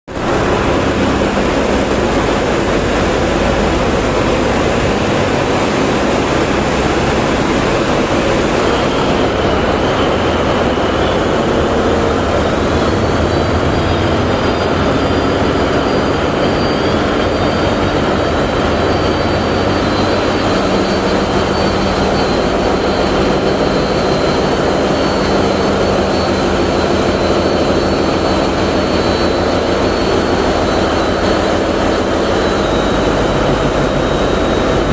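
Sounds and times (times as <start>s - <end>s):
faint high whine: 0.1s - 34.9s
diesel engines droning: 0.2s - 34.9s.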